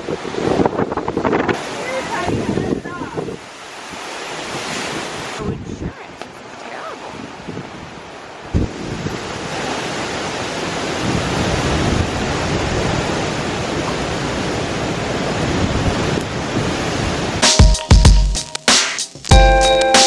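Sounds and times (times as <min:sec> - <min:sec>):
wind buffeting microphone: 0:00.0 - 0:17.4
wind and rain lashing trees: 0:00.0 - 0:18.3.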